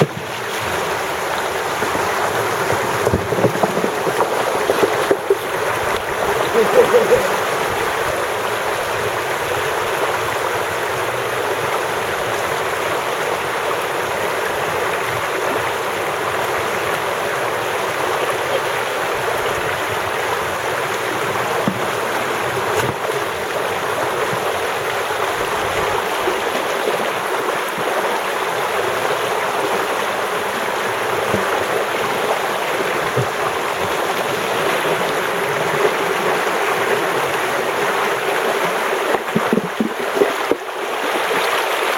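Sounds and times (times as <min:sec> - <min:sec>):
creek water rushing: 0:00.0 - 0:41.9.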